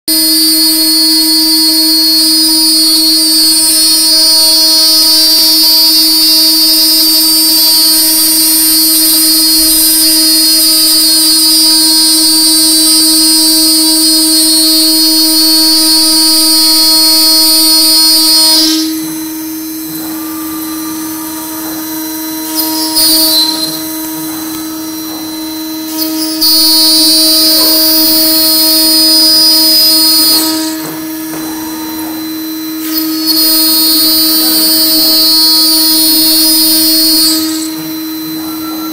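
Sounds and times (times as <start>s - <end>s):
bit cutting wood hiss: 0.1s - 38.9s
router spindle whine: 0.1s - 38.9s.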